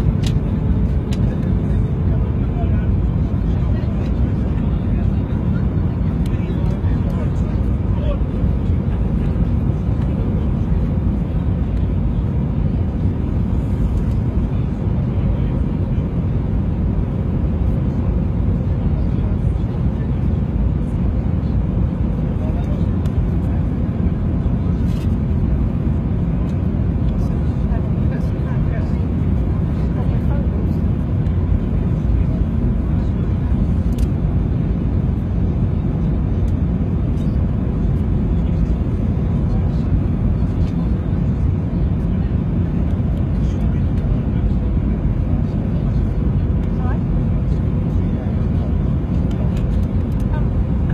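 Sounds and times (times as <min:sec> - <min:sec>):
aircraft engines and rushing air: 0:00.0 - 0:50.9.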